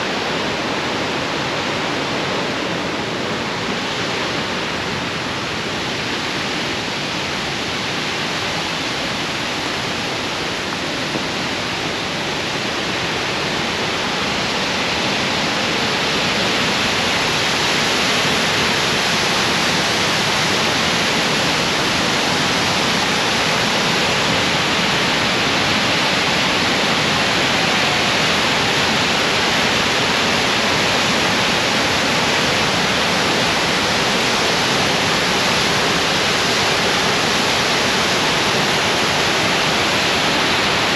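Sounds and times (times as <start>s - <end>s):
whitewater rushing: 0.0s - 40.9s.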